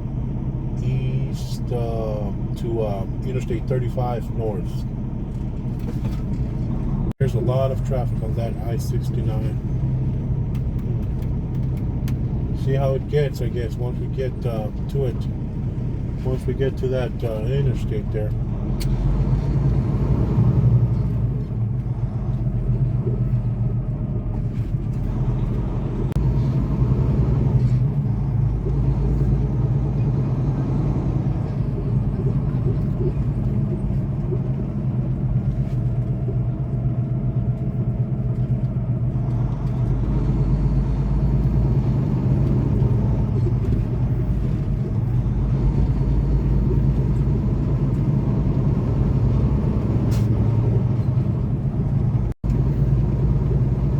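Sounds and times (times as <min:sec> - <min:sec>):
diesel truck engine droning: 0:00.0 - 0:53.9
road noise: 0:00.0 - 0:53.9.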